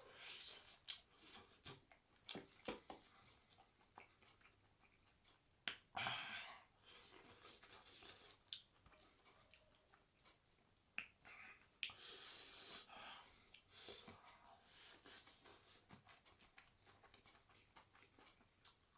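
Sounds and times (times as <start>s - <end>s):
chewing with wet clicks: 0.7s - 5.9s, 7.0s - 12.0s, 13.4s - 18.9s.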